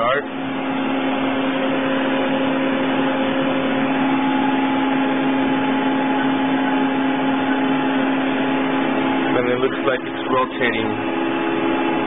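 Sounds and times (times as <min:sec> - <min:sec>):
high steady whine: 0:00.0 - 0:12.0
milling machine hum: 0:00.0 - 0:12.0.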